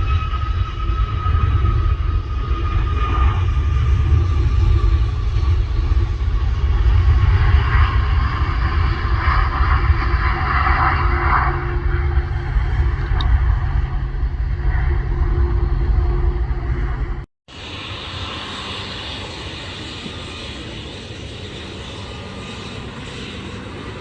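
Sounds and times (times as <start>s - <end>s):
jet airliner taking off: 0.0s - 24.0s.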